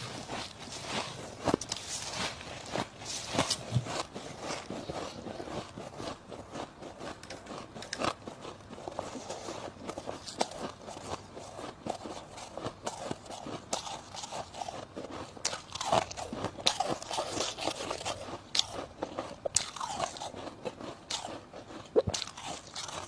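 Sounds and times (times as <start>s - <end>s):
frost being chewed: 0.0s - 23.0s.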